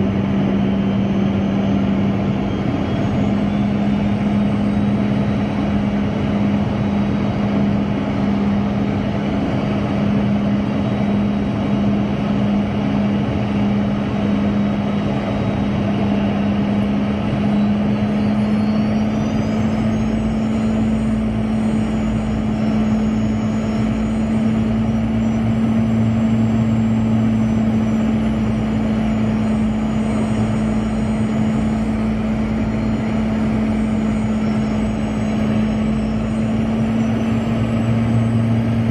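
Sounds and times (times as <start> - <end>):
faint high whine: 0.0 - 38.9
jet engine and airflow noise: 0.0 - 38.9.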